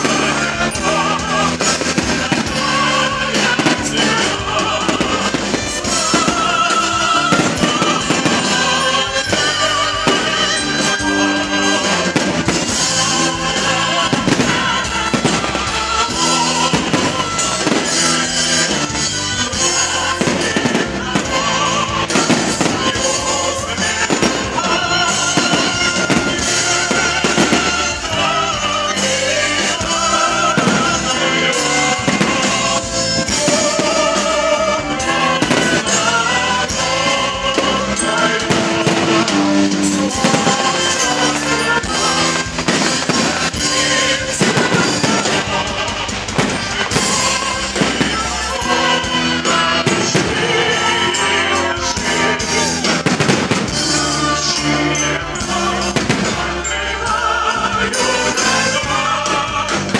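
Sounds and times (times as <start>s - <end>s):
fireworks bangs and crackles: 0.0s - 59.9s
loud music with singing: 0.0s - 59.9s.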